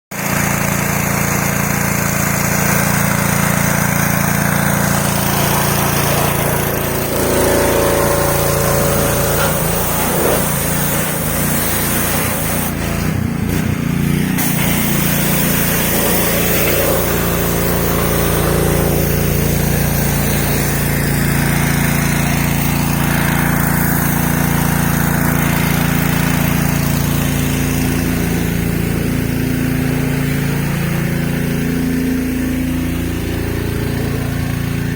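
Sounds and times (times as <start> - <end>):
small petrol engine running: 0.1 - 34.9.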